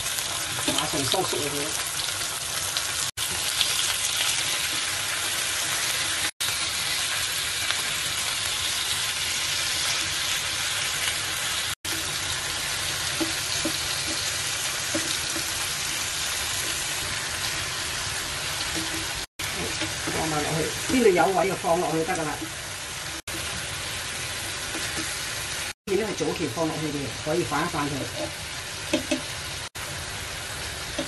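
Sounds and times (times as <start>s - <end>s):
meat sizzling in frying pan: 0.0s - 31.0s.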